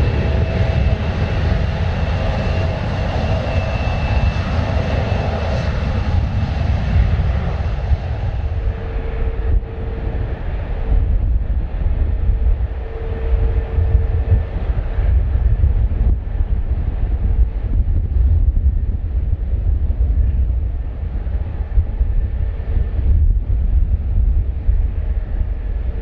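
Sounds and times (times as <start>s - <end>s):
jet engine whine: 0.0s - 26.0s
jet engines rumbling: 0.0s - 26.0s
low steady engine tone: 0.0s - 26.0s.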